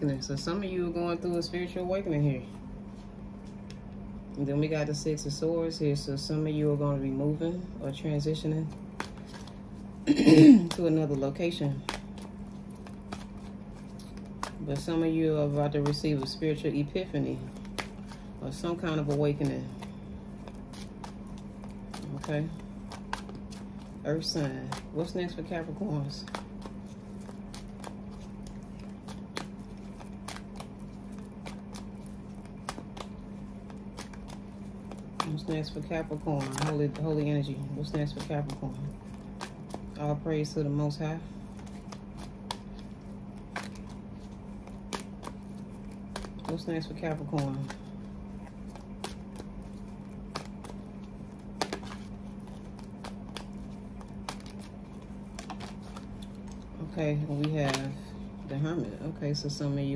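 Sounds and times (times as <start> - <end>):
steady low hum: 0.0 - 59.9
cards being shuffled: 7.9 - 59.6.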